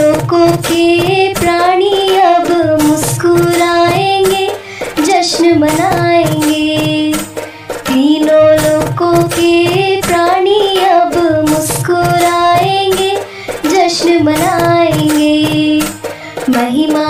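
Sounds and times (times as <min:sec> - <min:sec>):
accompanying music: 0:00.0 - 0:17.0
steady drum beat: 0:00.0 - 0:17.0
woman singing: 0:00.0 - 0:17.0.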